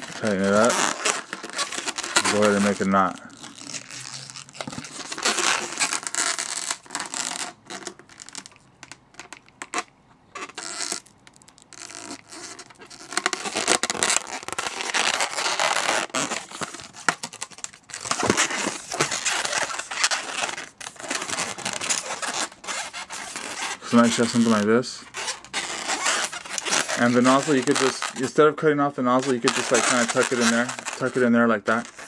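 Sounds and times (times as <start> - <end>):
latex balloon rubbing and scratching: 0.0 - 32.0.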